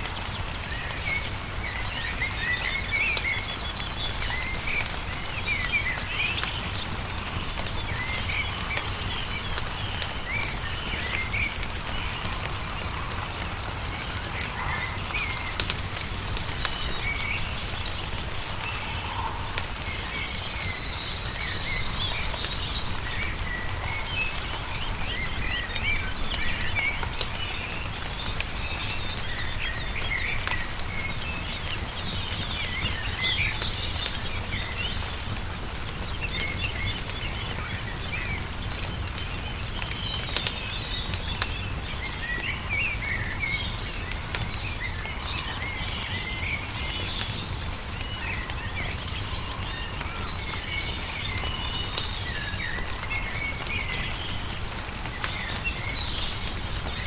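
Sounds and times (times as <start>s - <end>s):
songbirds chirping and warbling: 0.0s - 57.0s
wood fire crackling: 0.0s - 57.0s.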